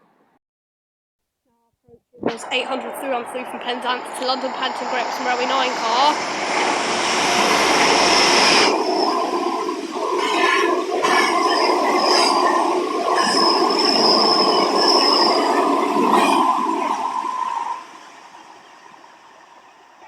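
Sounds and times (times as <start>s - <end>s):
thin high whine: 1.9s - 20.0s
train wheel and rail noise: 2.3s - 20.0s.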